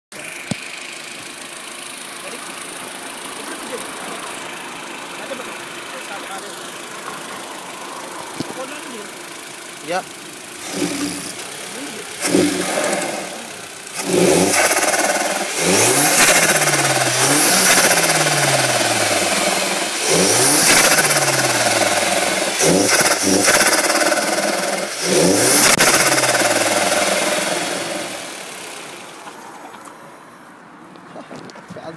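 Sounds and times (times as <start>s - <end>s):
car engine revving: 0.1s - 29.8s.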